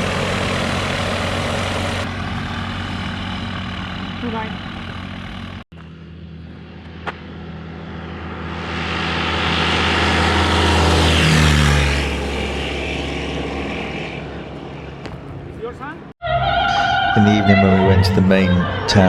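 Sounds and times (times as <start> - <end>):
propeller aircraft passing: 0.0 - 16.2.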